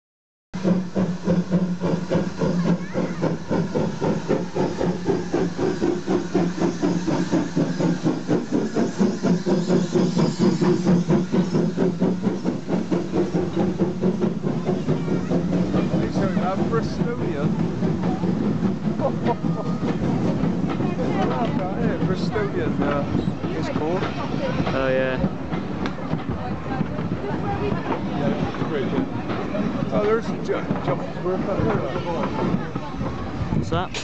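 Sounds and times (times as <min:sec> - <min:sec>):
steam hissing: 0:00.6 - 0:34.0
steam locomotive chuffing: 0:00.6 - 0:34.0.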